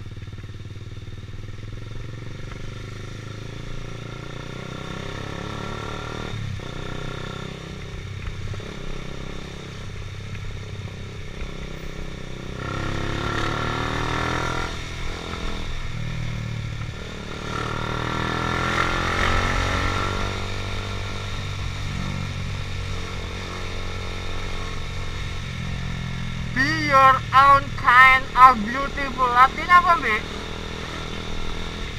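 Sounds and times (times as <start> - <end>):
motorcycle engine accelerating: 0.0 - 31.9.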